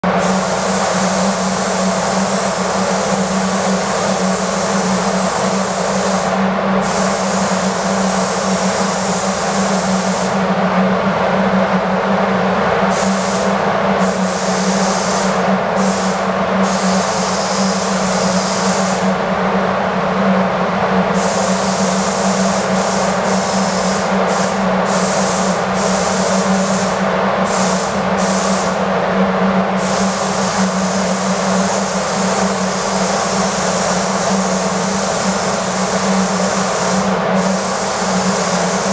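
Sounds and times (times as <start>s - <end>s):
spray booth air hum: 0.0s - 38.9s
air spray gun hissing: 0.1s - 10.4s, 12.9s - 19.2s, 21.2s - 28.8s, 29.8s - 38.9s.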